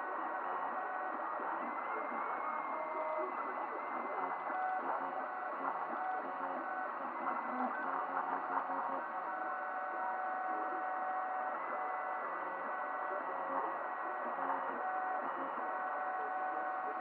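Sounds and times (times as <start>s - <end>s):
constant mechanical hum: 0.0s - 17.0s.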